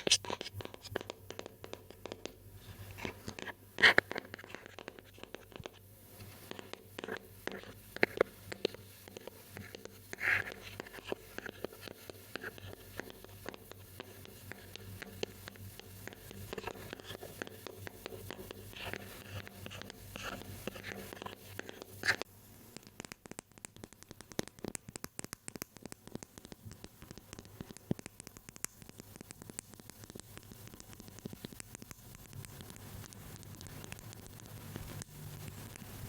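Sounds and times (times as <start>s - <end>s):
rapid light tapping: 0.0s - 35.7s
fingers scratching objects: 0.0s - 36.0s.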